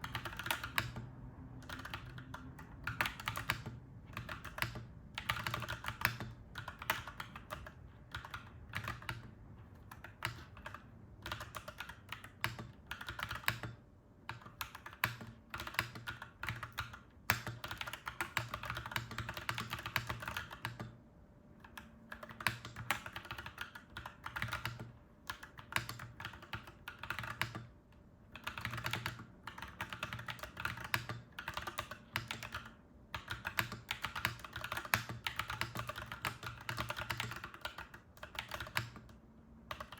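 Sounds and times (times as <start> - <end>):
mechanical keyboard typing: 0.0 - 21.0, 21.6 - 39.9.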